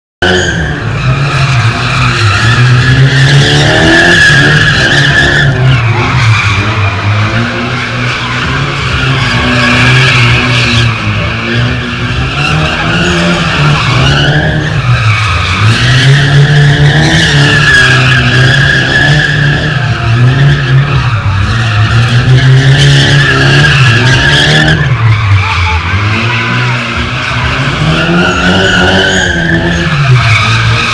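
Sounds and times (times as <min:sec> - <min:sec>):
car engine revving: 0:00.2 - 0:30.9
car tyres squealing: 0:00.2 - 0:30.9.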